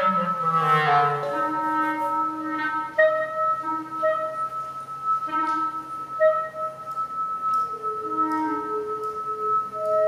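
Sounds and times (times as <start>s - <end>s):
clarinet short detached notes: 0.0s - 10.0s.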